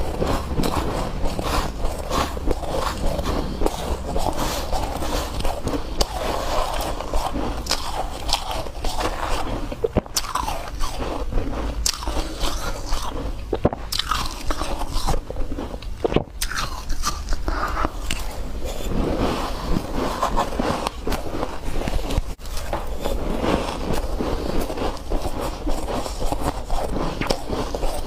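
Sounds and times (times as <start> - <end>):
snow being chewed: 0.0 - 28.0.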